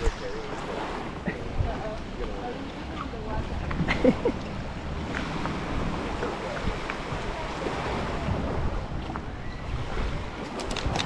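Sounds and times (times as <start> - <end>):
small waves washing: 0.0 - 11.0
wind buffeting microphone: 0.0 - 11.0.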